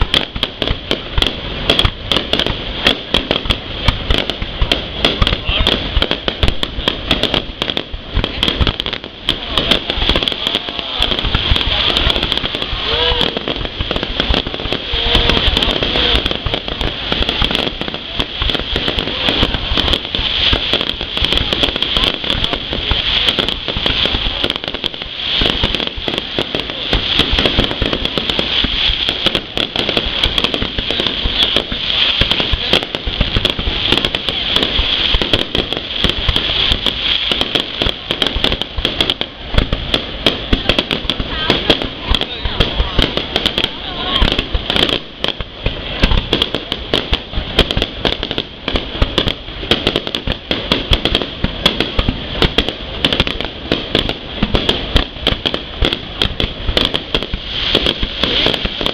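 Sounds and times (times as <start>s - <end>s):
fireworks crackling: 0.0s - 58.9s
faint voices: 4.0s - 58.9s.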